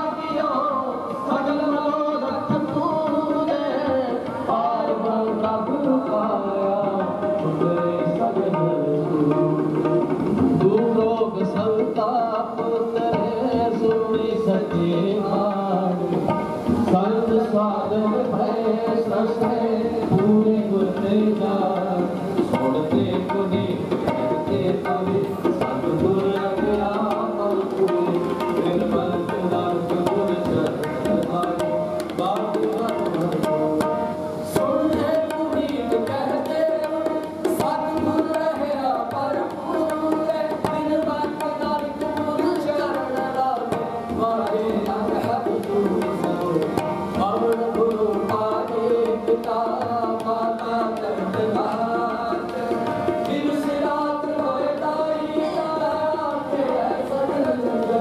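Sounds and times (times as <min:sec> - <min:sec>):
harmonium melody: 0:00.0 - 0:58.0
tabla playing: 0:00.0 - 0:58.0.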